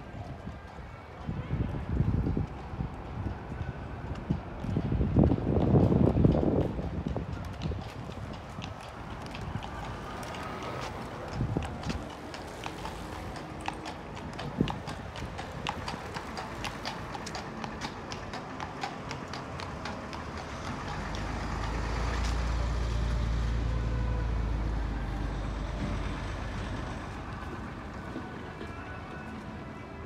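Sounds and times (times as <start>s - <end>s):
horse hooves on asphalt: 0.0s - 22.9s, 25.7s - 30.0s.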